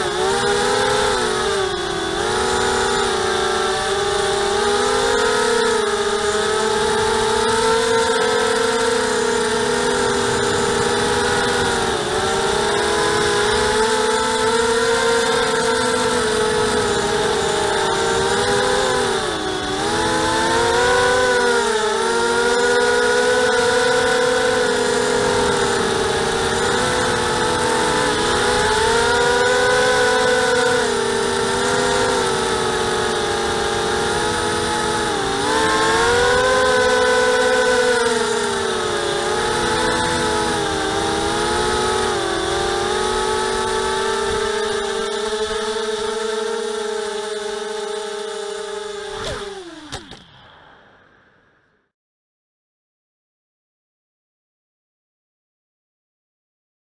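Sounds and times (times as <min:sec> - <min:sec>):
drone motors whining: 0:00.0 - 0:51.8.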